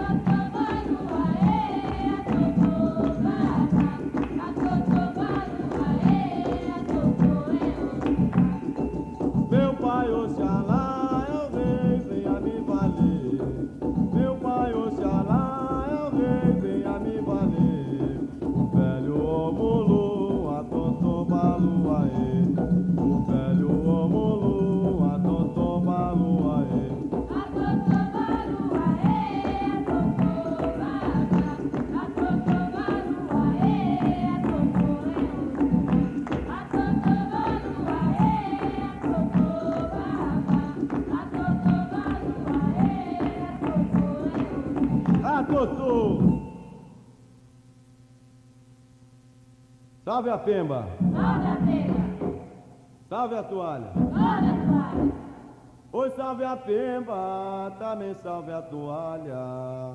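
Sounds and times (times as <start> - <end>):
voices singing a chant: 0.0 - 8.8, 9.5 - 46.4, 51.0 - 52.6, 53.2 - 59.9
hand-drum rhythm: 0.0 - 47.6, 50.9 - 53.2, 53.8 - 56.2.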